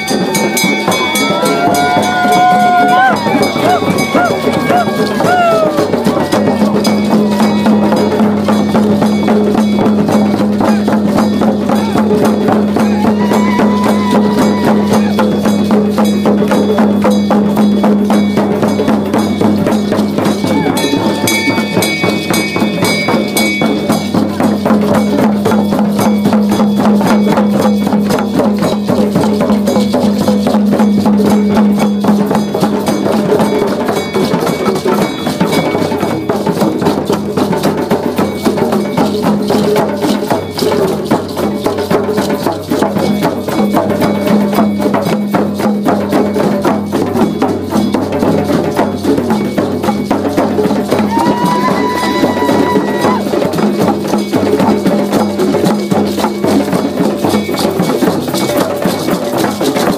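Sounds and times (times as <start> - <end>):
hand drums beating: 0.0 - 59.9.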